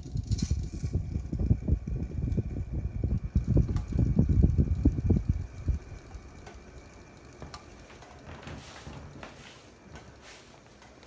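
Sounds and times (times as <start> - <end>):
ceiling fan whirring: 0.0 - 11.0
fan draft buffeting microphone: 0.0 - 11.0.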